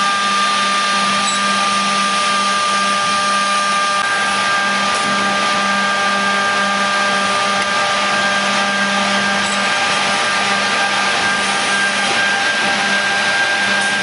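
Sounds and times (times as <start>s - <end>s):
machine rushing hum: 0.0s - 14.0s
whining tones: 0.0s - 14.0s.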